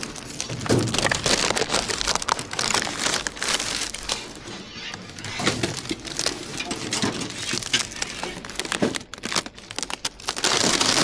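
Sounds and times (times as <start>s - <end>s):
crackling and rustling plastic: 0.0s - 11.0s.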